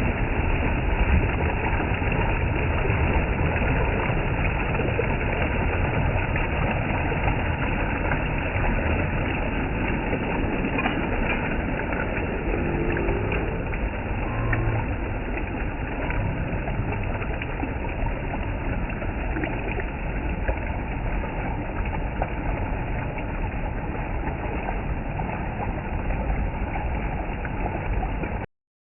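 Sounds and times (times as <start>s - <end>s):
water gushing: 0.0s - 28.4s.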